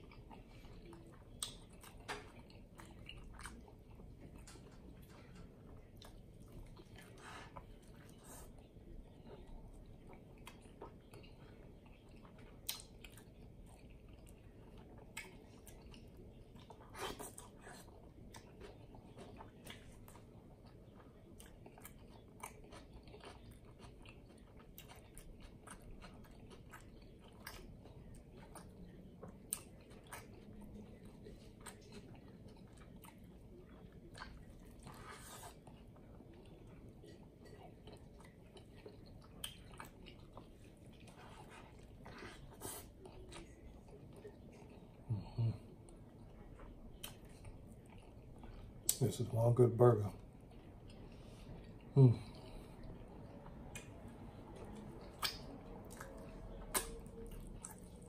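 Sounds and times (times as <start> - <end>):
chewing mouth clicks and smacks: 0.0 - 8.4, 10.0 - 45.0, 45.9 - 49.0, 52.8 - 58.0.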